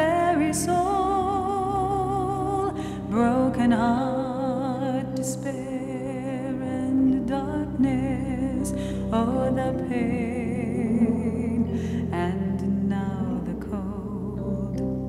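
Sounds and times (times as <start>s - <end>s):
person singing long notes: 0.0s - 15.0s
soft instrumental accompaniment: 0.0s - 15.0s.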